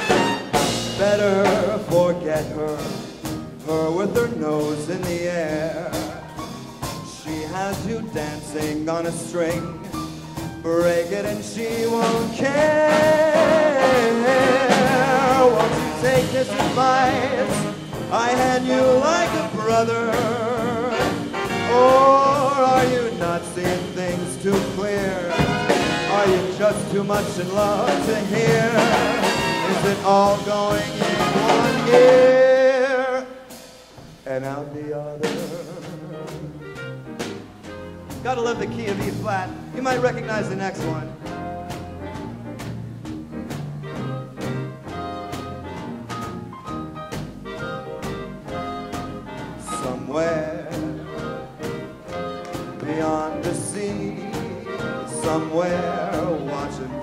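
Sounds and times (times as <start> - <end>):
big band playing swing: 0.0 - 57.0.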